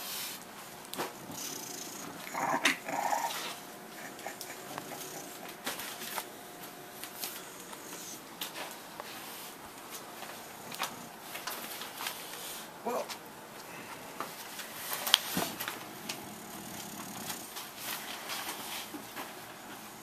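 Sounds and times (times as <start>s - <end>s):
dogs playing: 0.0s - 20.0s.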